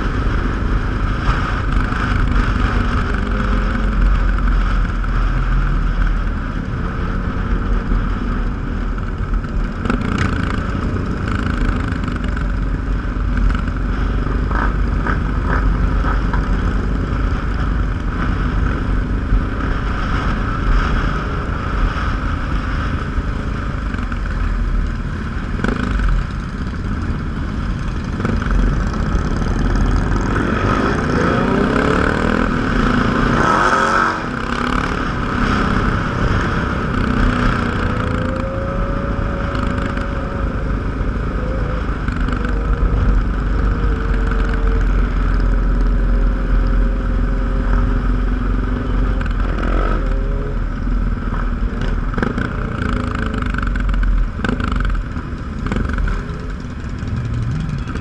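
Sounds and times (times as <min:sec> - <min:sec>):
motorcycle engines: 0:00.0 - 0:58.0.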